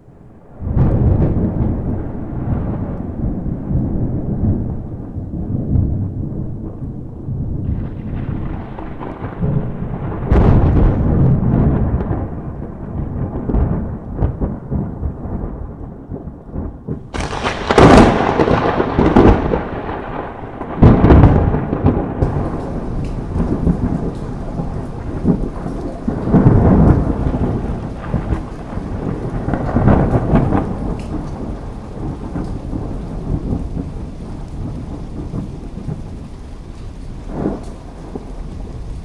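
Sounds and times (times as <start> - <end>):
steady rain: 0.0 - 39.0
thunder rumbling and cracking: 0.0 - 39.0.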